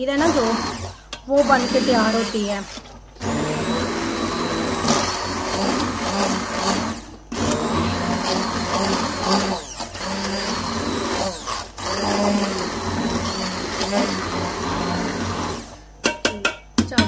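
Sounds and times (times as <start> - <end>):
electric blender grinding: 0.0 - 16.0.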